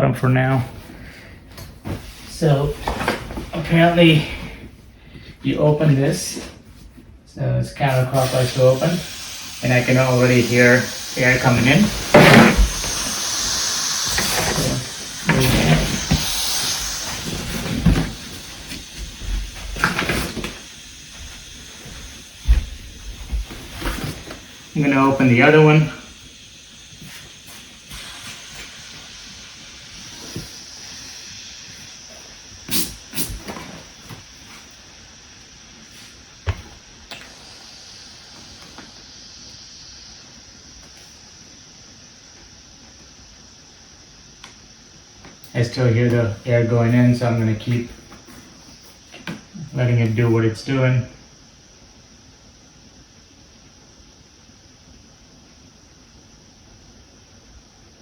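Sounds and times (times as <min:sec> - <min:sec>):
air hissing through valve: 0:00.0 - 0:53.8.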